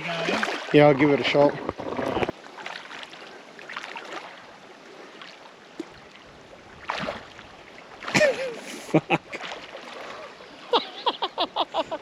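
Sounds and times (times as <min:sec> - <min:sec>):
water sloshing and splashing: 0:00.0 - 0:10.9.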